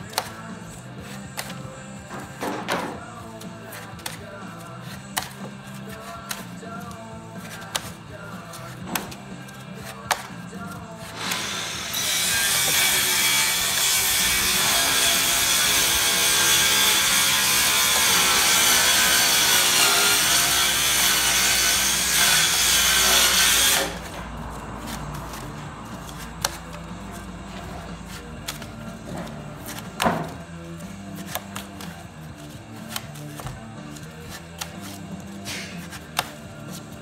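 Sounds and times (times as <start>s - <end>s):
multi-tool cutting foam: 0.0s - 37.0s.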